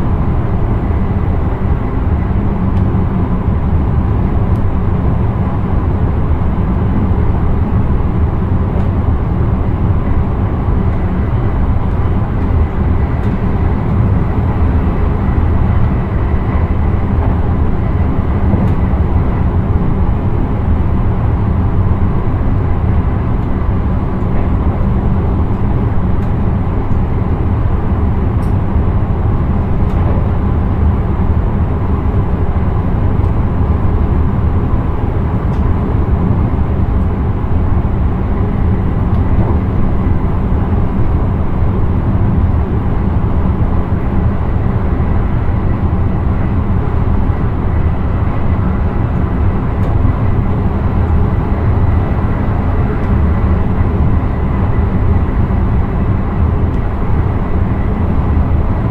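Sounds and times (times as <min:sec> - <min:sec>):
electric train rumbling: 0:00.0 - 0:58.9.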